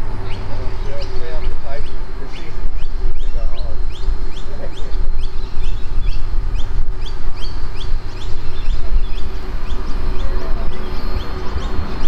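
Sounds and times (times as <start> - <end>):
bird chirping: 0.0 - 12.0
low rumble: 0.0 - 12.0.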